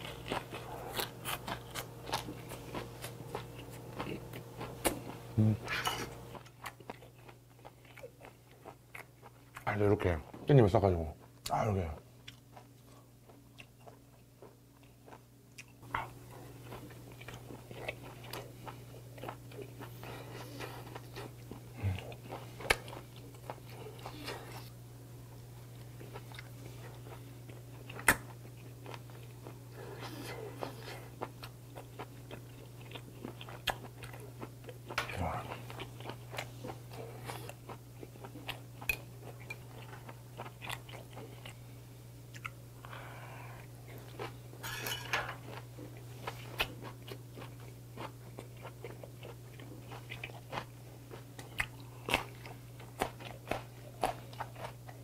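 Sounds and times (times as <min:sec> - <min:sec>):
close-up chewing: 0:00.0 - 0:10.2, 0:12.2 - 0:41.7, 0:42.3 - 0:44.6, 0:45.4 - 0:55.0
steady low hum: 0:00.0 - 0:55.0.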